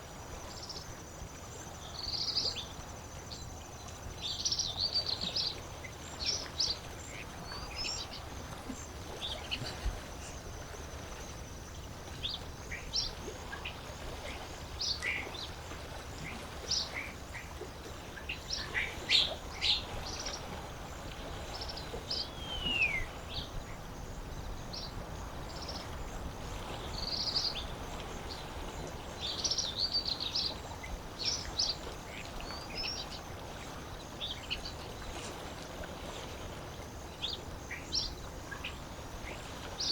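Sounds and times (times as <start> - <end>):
lake water: 0.0 - 39.9
wild birds chirping: 0.5 - 35.4, 37.0 - 39.9.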